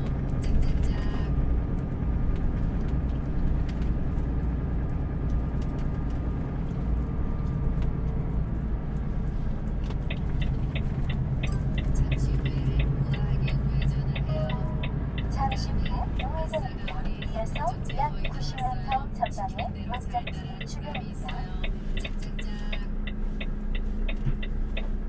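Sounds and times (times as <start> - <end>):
road noise: 0.0 - 25.0
truck diesel engine rumble: 0.0 - 25.0
turn signal ticking: 0.0 - 25.0.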